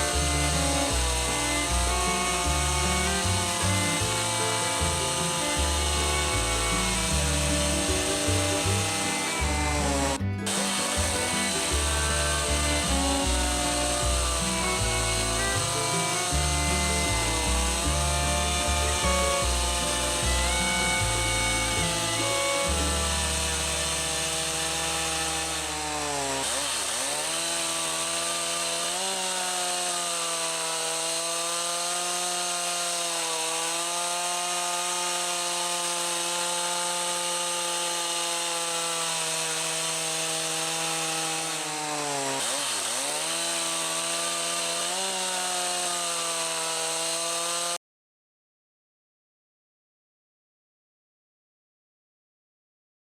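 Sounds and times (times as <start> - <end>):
chainsaw engine revving: 0.0 - 47.8.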